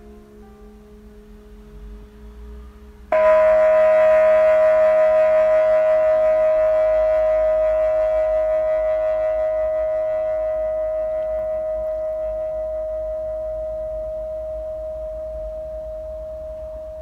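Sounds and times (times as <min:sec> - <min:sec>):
loud ringing drone: 0:00.0 - 0:17.0.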